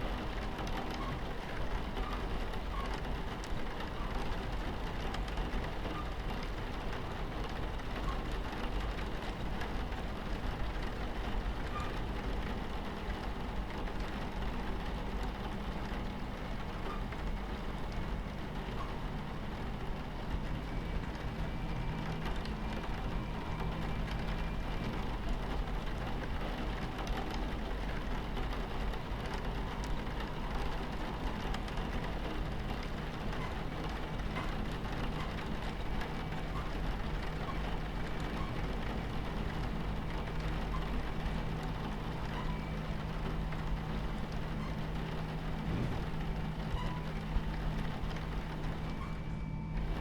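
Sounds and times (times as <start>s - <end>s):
rain pattering on window: 0.0s - 50.0s
train rumbling on tracks: 0.0s - 50.0s.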